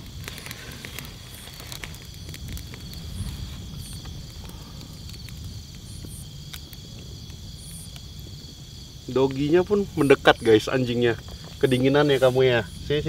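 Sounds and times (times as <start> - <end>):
campfire crackling: 0.0 - 13.0
night insects chirring: 0.0 - 13.0.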